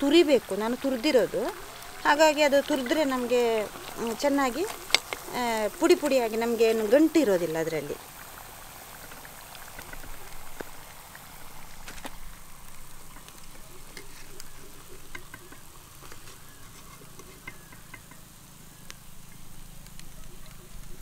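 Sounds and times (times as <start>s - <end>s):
hot oil sizzling: 0.0s - 21.0s
small clicks and pops: 0.0s - 21.0s.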